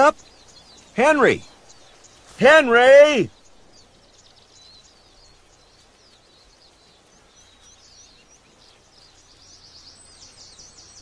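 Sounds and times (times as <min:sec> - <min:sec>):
birds chirping and twittering: 0:00.0 - 0:11.0
faint steady hiss: 0:00.0 - 0:11.0.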